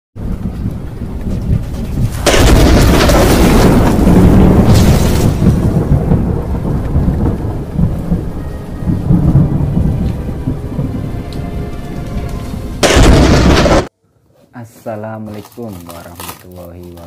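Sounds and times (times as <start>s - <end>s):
loud thunder crash: 0.2s - 13.9s
rolling thunder rumble: 0.2s - 13.9s.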